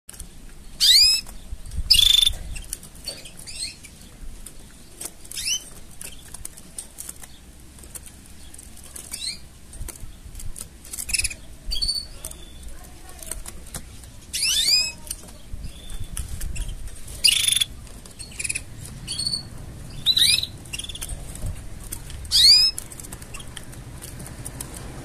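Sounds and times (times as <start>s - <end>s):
canaries chirping: 0.1s - 25.0s.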